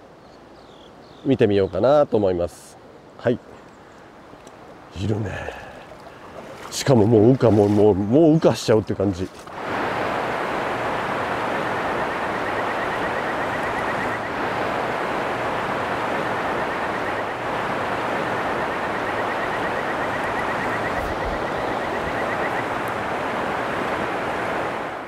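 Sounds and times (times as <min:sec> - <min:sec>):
stream rushing: 0:02.2 - 0:25.0.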